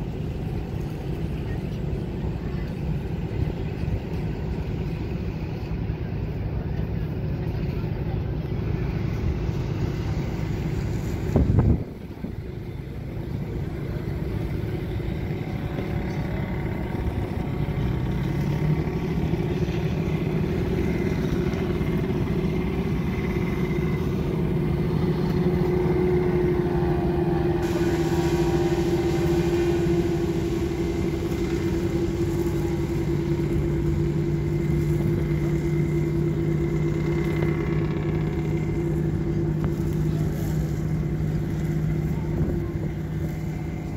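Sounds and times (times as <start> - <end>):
motor engine droning: 0.0 - 43.9.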